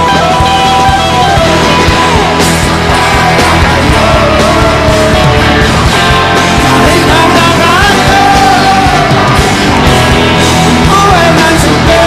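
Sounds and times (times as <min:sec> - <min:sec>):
bending lead guitar line: 0:00.0 - 0:12.0
rock band playing live: 0:00.0 - 0:12.0.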